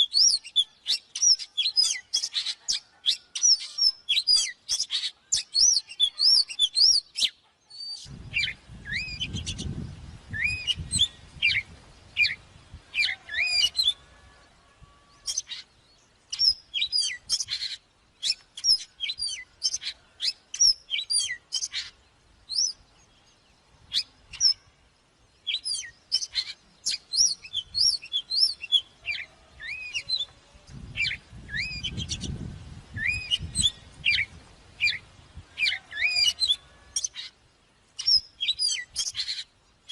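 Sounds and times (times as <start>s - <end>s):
bird singing whistled notes: 0.0s - 14.2s, 14.8s - 24.7s, 25.3s - 37.4s, 38.0s - 39.9s.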